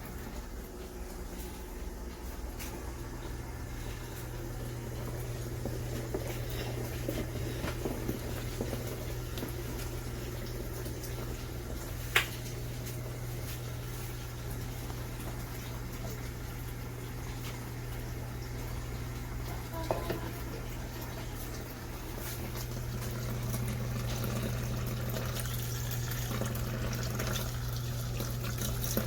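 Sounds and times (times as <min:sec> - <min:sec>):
washing machine motor humming: 0:00.0 - 0:29.0
water sloshing in tub: 0:00.0 - 0:29.0.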